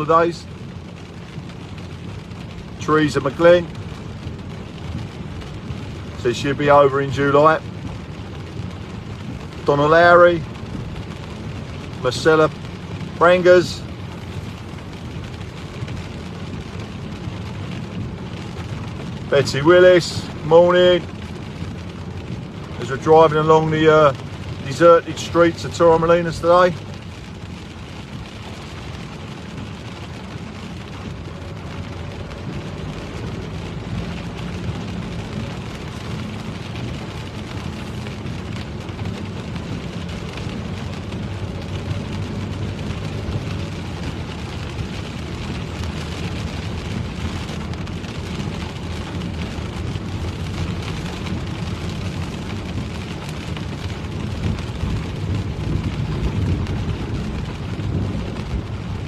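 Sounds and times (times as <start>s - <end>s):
car interior road rumble: 0.0s - 59.0s
rain and wet road hiss: 0.0s - 59.0s.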